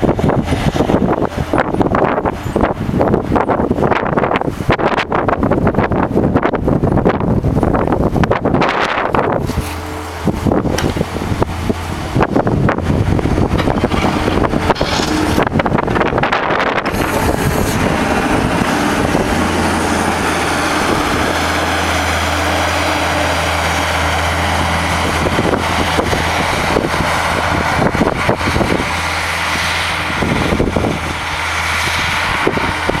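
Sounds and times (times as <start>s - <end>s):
skid steer engine running: 0.0s - 33.0s
wind buffeting microphone: 0.0s - 33.0s.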